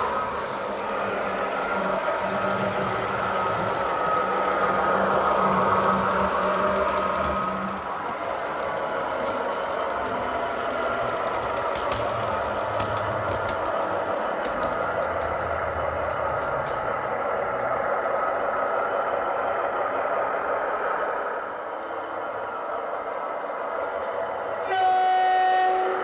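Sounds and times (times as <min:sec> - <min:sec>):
model train diesel engine sound: 0:00.0 - 0:26.0
model train mechanical running noise: 0:00.0 - 0:26.0.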